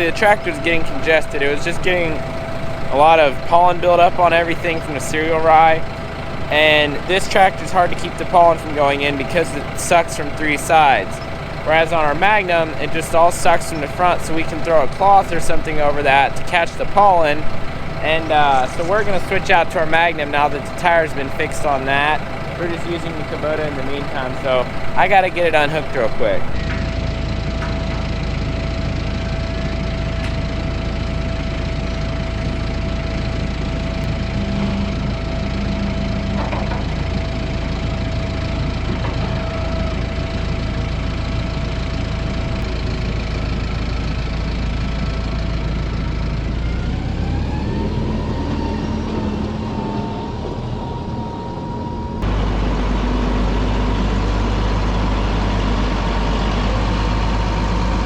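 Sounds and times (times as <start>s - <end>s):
deep engine drone: 0.0s - 58.0s
tractor engine running: 0.0s - 58.0s.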